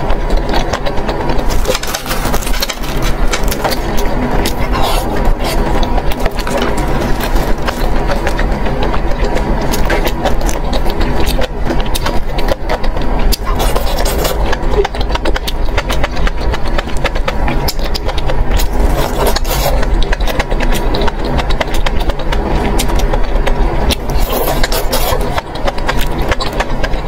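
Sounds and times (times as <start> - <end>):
steady low hum: 0.0 - 27.0
wet crunchy chewing: 0.0 - 27.0.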